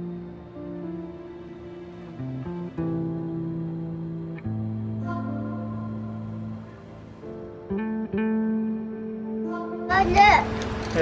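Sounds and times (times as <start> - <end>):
slow plucked guitar music: 0.0 - 11.0.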